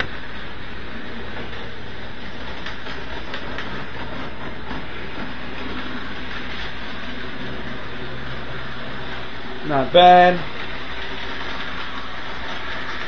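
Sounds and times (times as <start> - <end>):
model train motor whirring: 2.2 - 13.0.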